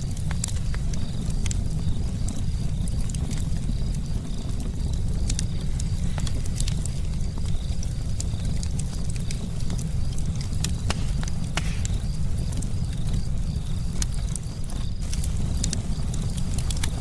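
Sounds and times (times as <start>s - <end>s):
fire low rumble: 0.0s - 17.0s
wood crackling and popping: 0.0s - 17.0s.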